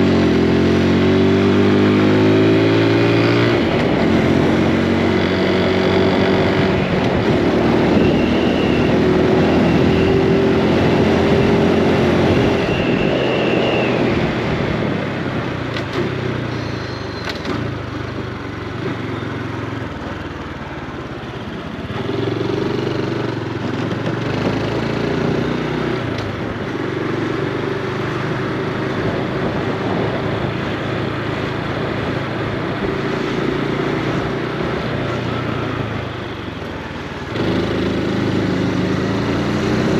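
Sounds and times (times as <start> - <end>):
motorcycle engine running: 0.0 - 13.1, 14.5 - 39.9
road and wind noise: 0.0 - 39.9.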